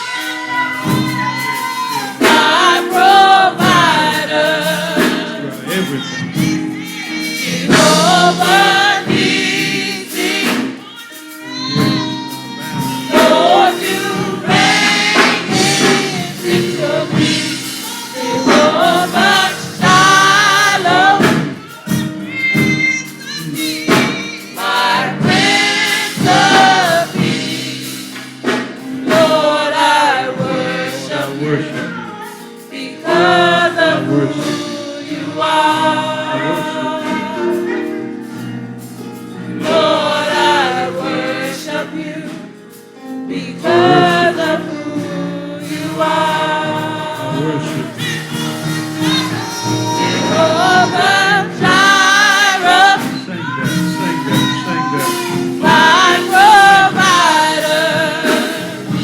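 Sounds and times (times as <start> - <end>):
choir and congregation singing: 0.0 - 59.0.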